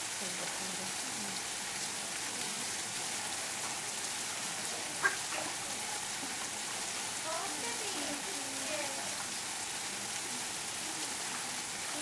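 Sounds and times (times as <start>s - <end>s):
steady hiss of water: 0.0s - 12.0s.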